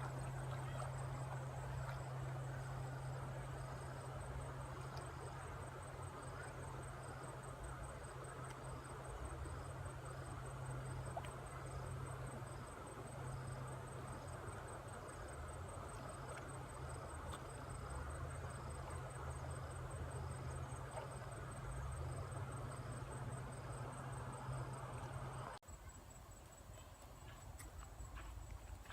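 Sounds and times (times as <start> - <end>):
constant low hum: 0.0 - 28.9
insects chirping: 0.0 - 28.9.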